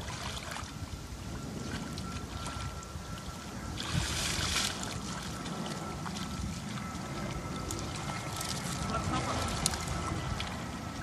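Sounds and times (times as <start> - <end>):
footsteps wading in water: 0.0 - 0.8, 1.5 - 11.0
water sloshing and splashing: 0.0 - 11.0.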